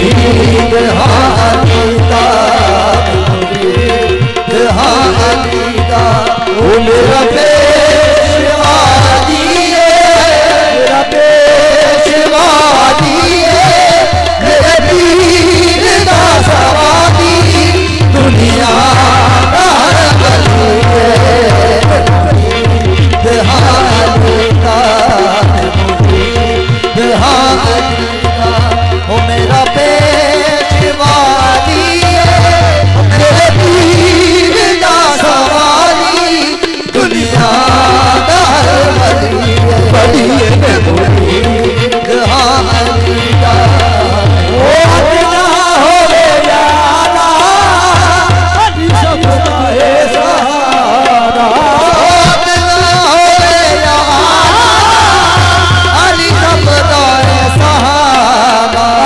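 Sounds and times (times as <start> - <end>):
tabla rhythm: 0.0 - 59.0.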